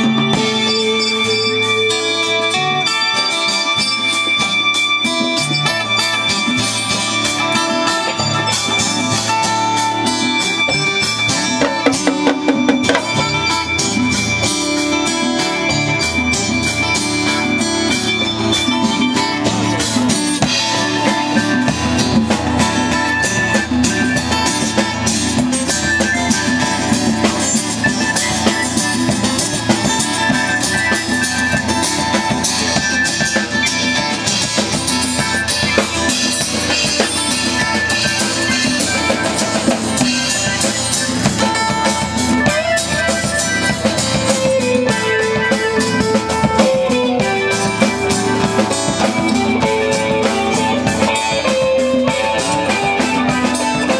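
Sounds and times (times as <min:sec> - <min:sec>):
drum kit beat: 0:00.0 - 0:53.9
lead guitar line: 0:00.0 - 0:53.9
strummed guitars: 0:00.0 - 0:53.9.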